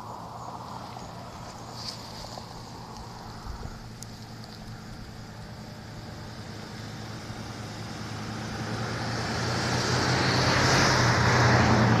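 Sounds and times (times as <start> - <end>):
vehicle approaching: 0.0 - 12.0.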